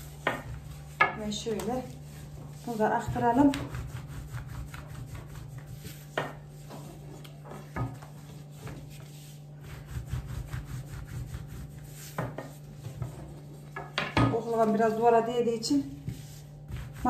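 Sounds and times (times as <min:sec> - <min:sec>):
rolling pin rolling on dough: 0:00.0 - 0:17.0.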